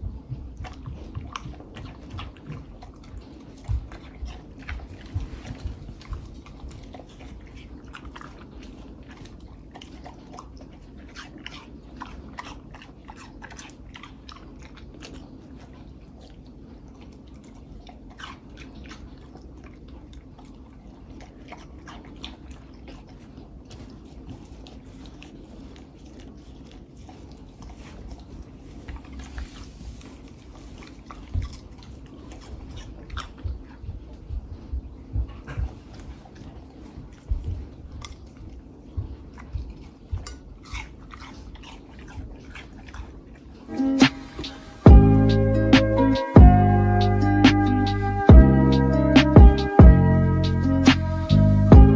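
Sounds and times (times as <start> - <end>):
dog chewing watermelon: 0.0 - 51.9.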